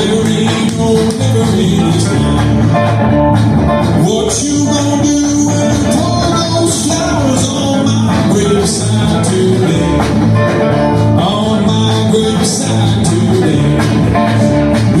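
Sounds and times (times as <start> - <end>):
acoustic guitars playing: 0.0 - 15.0
upright bass playing: 0.0 - 15.0.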